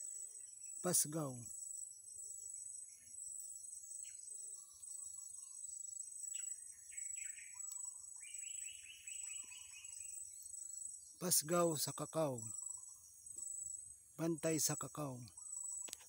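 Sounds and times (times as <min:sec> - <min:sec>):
bird chirping: 0:00.0 - 0:16.0
insects trilling: 0:00.0 - 0:16.0.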